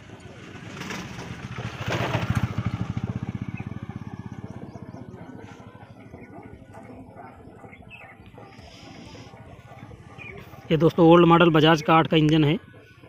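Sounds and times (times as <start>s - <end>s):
passing vehicle engine: 0.0s - 11.3s.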